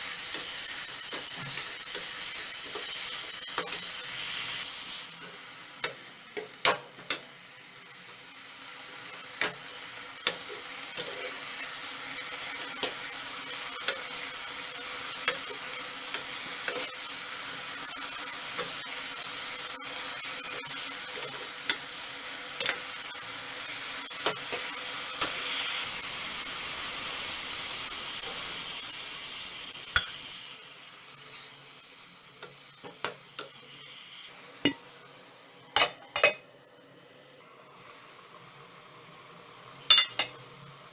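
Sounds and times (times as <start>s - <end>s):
greens sizzling in a pan: 0.0s - 40.9s.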